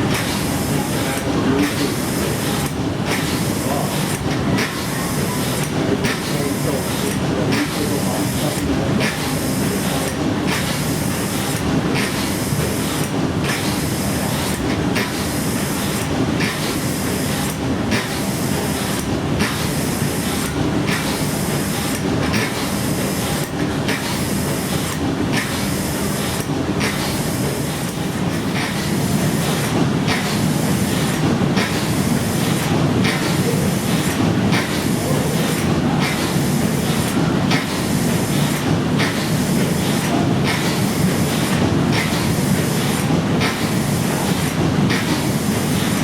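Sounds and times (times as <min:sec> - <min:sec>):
steam engine clatter and hiss: 0:00.0 - 0:46.0.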